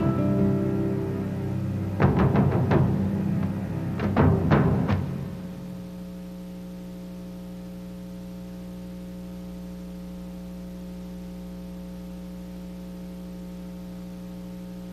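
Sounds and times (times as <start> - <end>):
electrical mains hum: 0.0 - 14.9
faint hiss: 0.0 - 14.9.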